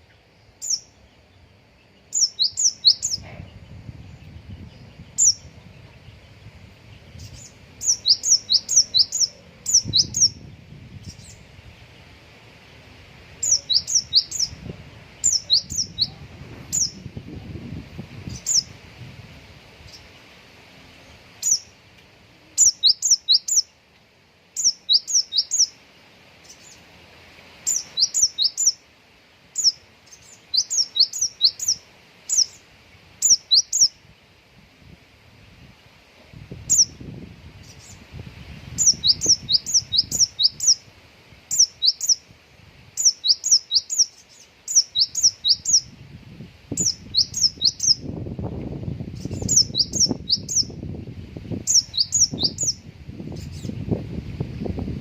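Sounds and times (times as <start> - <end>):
songbird chirping: 0.0 - 18.8, 19.8 - 54.0.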